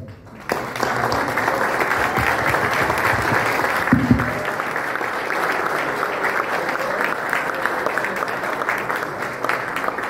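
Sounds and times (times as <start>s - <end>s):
audience applause: 0.2s - 10.0s.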